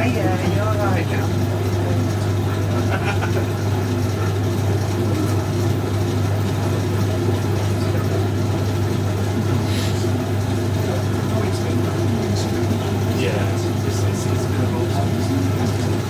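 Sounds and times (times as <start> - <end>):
washing machine motor humming: 0.0 - 16.0.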